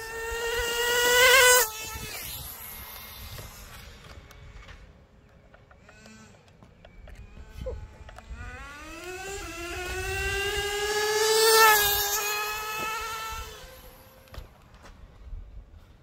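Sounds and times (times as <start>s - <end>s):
rc car engine whine: 0.0s - 14.8s.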